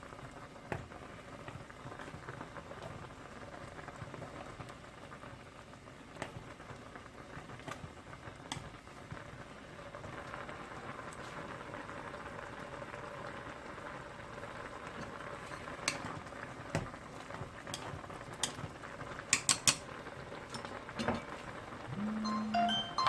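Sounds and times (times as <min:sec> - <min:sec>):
water boiling with hiss: 0:00.0 - 0:22.2.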